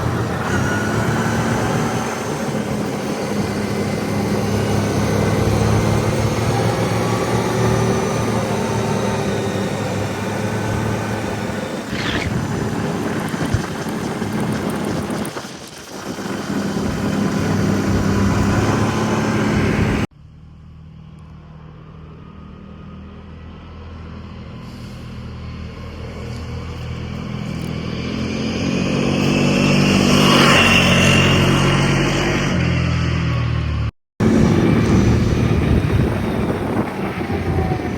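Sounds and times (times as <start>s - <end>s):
atv engine running: 0.0s - 20.1s, 23.8s - 32.4s, 33.7s - 37.9s
heavy rushing noise: 0.0s - 20.1s, 24.6s - 37.9s.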